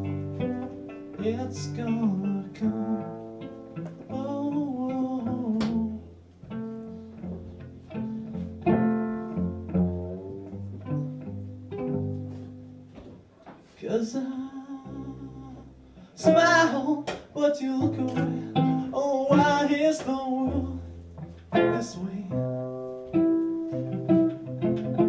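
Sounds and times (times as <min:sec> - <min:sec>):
cello plucked pizzicato: 0:00.0 - 0:13.3, 0:14.4 - 0:25.0.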